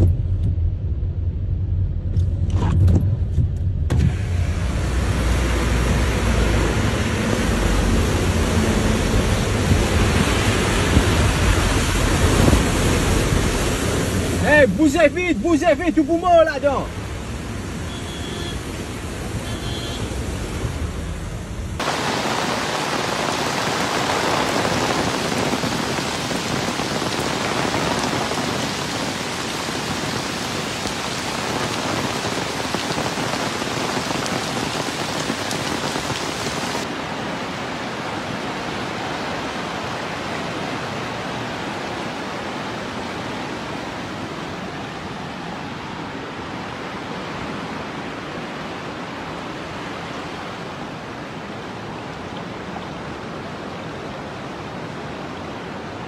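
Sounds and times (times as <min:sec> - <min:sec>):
heavy rain pouring on street: 0:04.1 - 0:56.0
floodwater running across road: 0:04.3 - 0:56.0.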